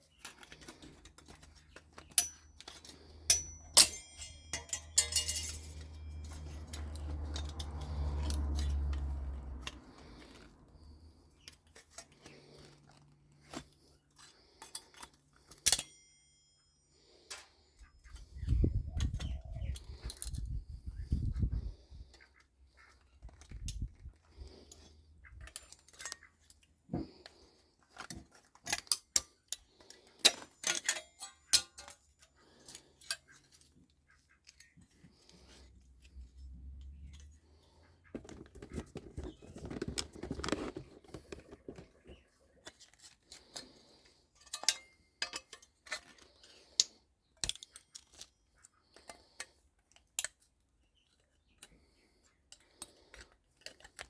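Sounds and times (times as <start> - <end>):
hand tools clicking and clinking: 0.0 - 20.5, 21.7 - 51.9.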